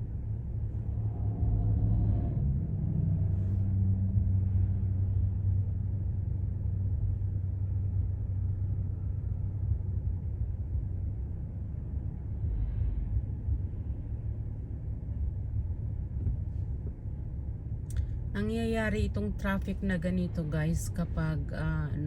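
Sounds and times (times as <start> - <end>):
car engine and road rumble: 0.0 - 22.0
faint hum: 0.0 - 22.0.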